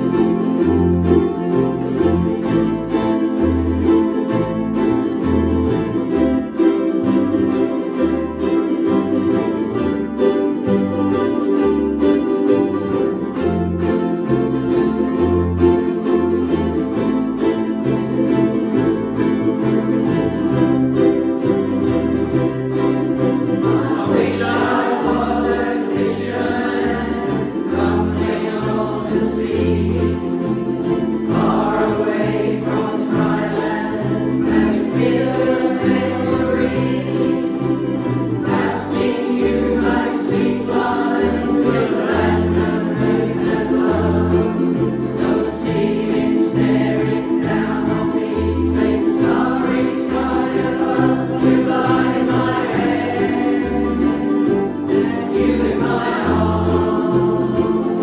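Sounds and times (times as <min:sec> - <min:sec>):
voices singing together: 0:00.0 - 0:15.4, 0:16.0 - 0:58.0
strummed strings: 0:00.0 - 0:58.0.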